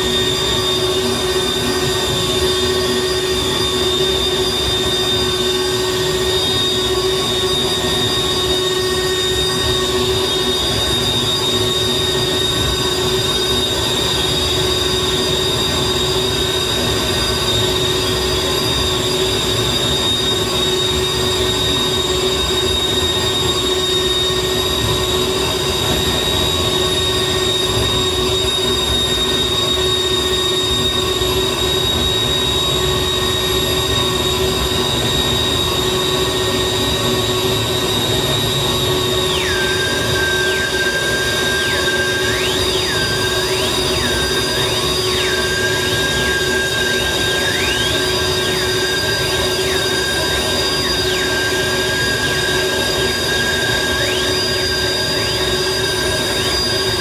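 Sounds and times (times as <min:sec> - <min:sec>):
high-pitched squeal: 0:00.0 - 0:57.0
low drone: 0:00.0 - 0:57.0.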